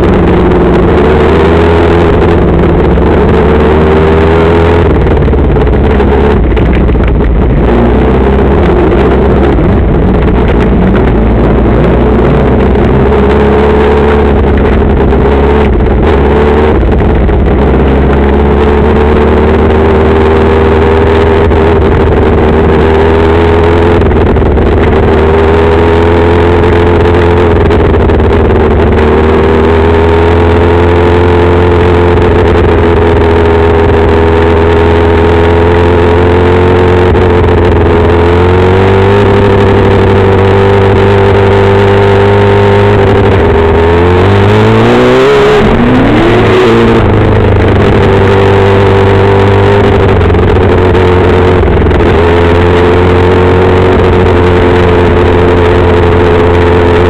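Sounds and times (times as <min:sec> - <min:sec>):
racing car engine running hard: 0:00.0 - 0:57.0.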